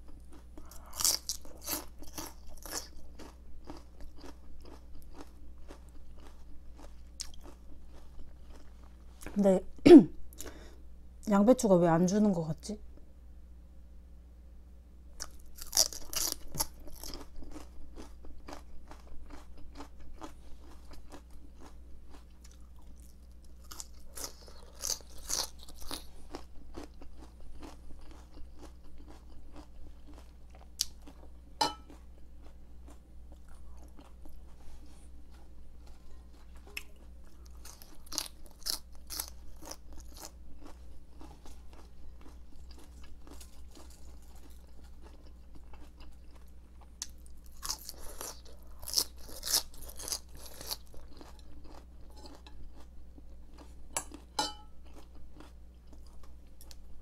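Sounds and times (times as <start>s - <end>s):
crunching raw cabbage: 0.2s - 9.4s, 15.2s - 56.8s.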